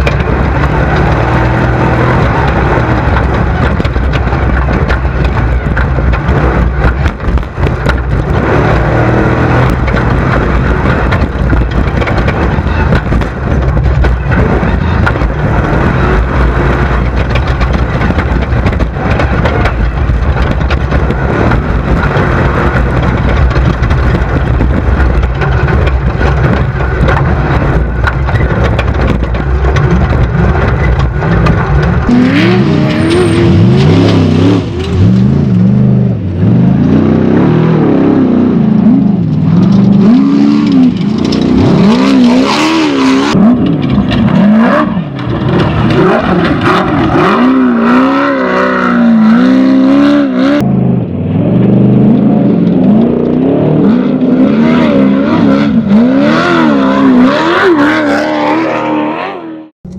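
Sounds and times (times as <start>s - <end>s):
buggy engine revving: 0.0s - 59.9s
heavy low rumble: 0.0s - 59.9s.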